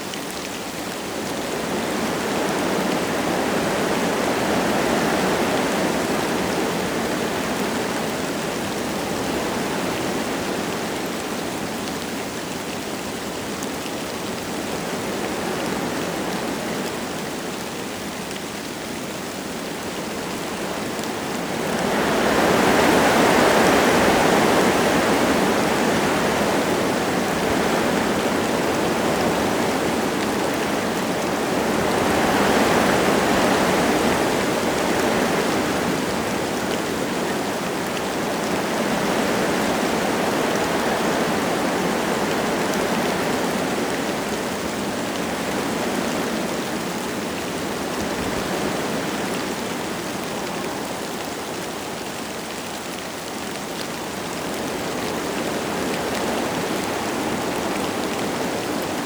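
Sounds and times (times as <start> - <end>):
light rain falling: 0.0 - 59.0
wind gusting through trees: 0.0 - 59.0.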